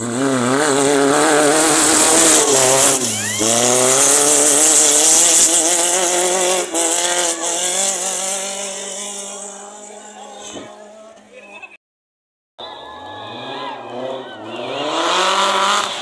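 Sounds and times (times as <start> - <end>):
race buggy engine accelerating: 0.0 - 11.3, 12.6 - 16.0.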